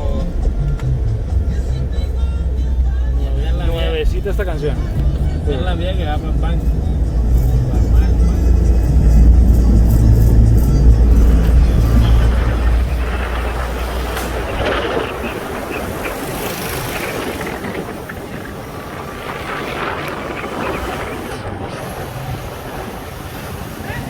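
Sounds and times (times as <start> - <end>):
vehicle road noise: 0.0 - 24.0.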